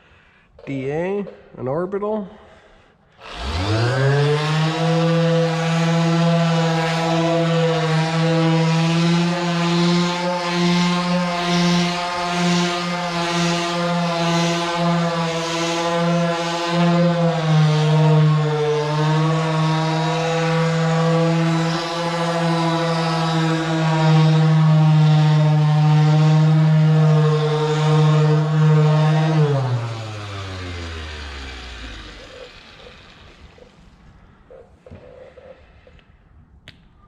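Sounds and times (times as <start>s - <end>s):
orbital polisher running: 3.2s - 34.0s.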